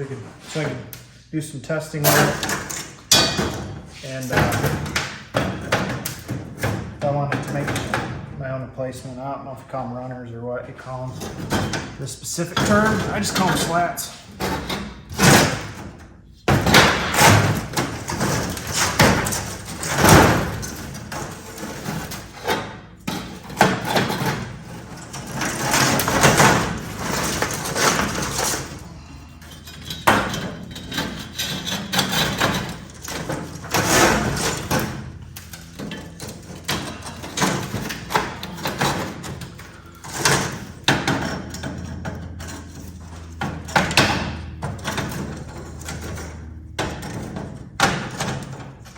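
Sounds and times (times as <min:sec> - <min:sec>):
steel slats rattling and scraping: 0:01.7 - 0:08.2, 0:10.9 - 0:48.9.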